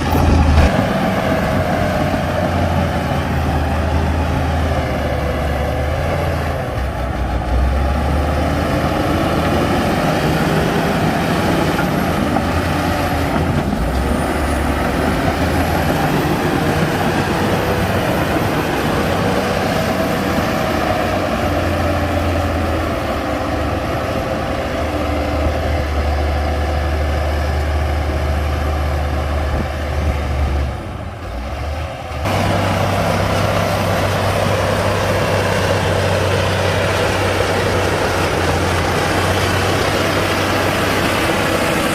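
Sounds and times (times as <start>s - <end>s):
diesel machinery engine rumbling: 0.0s - 41.9s.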